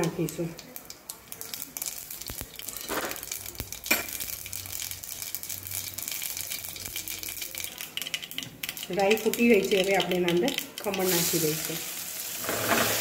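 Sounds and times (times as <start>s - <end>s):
seeds sizzling and popping in hot oil: 0.0s - 13.0s.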